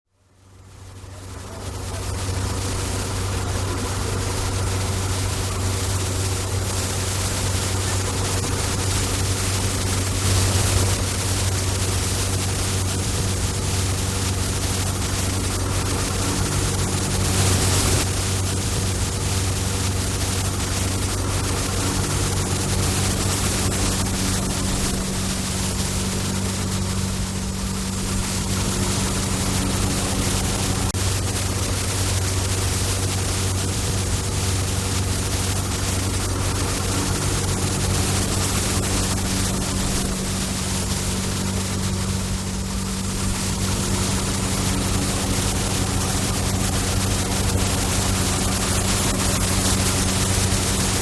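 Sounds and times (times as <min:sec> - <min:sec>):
rushing noise: 0:00.6 - 0:51.0
truck engine hum: 0:00.7 - 0:51.0.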